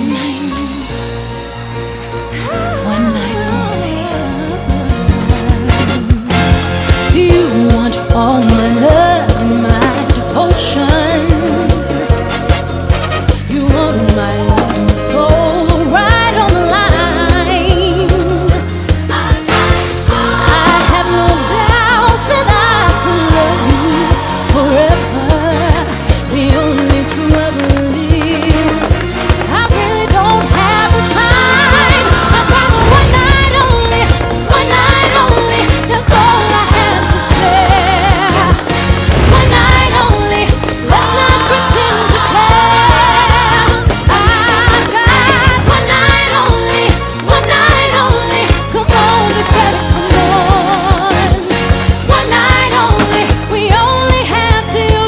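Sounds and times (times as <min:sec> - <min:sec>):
pop song singing: 0:00.0 - 0:01.5, 0:02.1 - 0:55.0
steady drum beat: 0:04.7 - 0:55.0.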